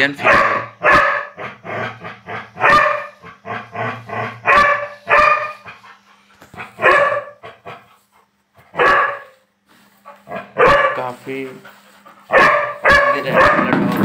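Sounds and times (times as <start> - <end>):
puppies barking: 0.0 - 7.8, 8.6 - 9.4, 10.2 - 14.0.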